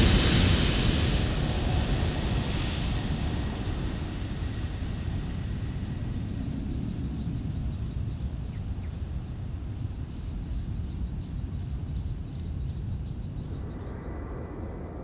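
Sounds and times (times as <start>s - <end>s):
jet engines rumbling at takeoff: 0.0s - 15.0s
insects chirring: 1.9s - 15.0s.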